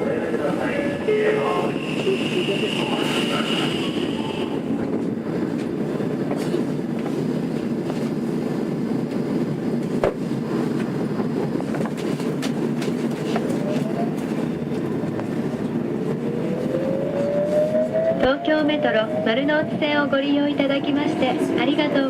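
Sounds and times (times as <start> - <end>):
subway car running rumble: 0.0 - 22.0.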